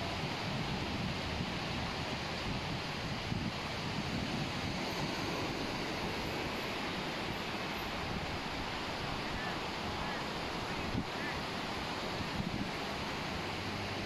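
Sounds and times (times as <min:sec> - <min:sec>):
sea waves on beach: 0:00.0 - 0:14.0
wind on microphone: 0:00.0 - 0:14.0.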